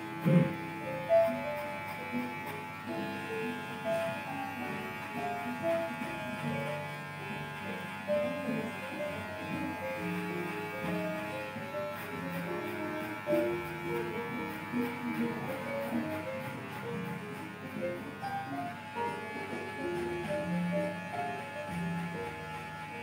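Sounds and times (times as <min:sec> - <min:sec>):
electric hair clipper buzzing: 0:00.0 - 0:23.0
background music: 0:00.2 - 0:23.0.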